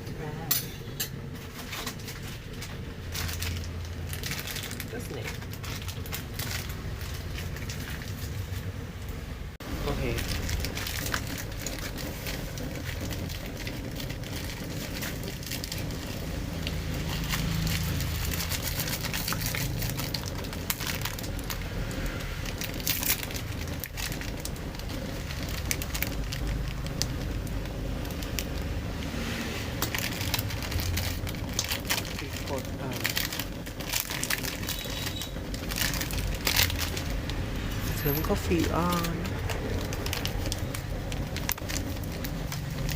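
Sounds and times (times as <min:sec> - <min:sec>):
low rumble: 0:00.0 - 0:42.9
crunching and crinkling: 0:01.3 - 0:08.8, 0:09.6 - 0:42.9.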